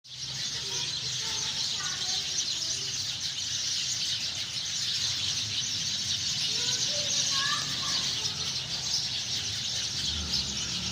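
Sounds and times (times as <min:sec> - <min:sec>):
sparrows chirping: 0:00.0 - 0:10.9.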